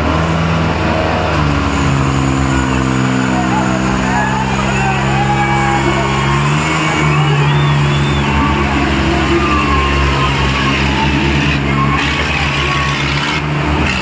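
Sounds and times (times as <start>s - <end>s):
diesel tractor engines revving: 0.0s - 14.0s.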